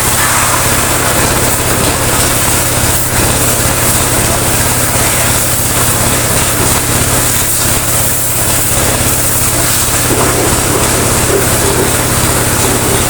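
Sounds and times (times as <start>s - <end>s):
pressure washer motor hum: 0.0s - 13.0s
water jet hissing: 0.0s - 13.0s.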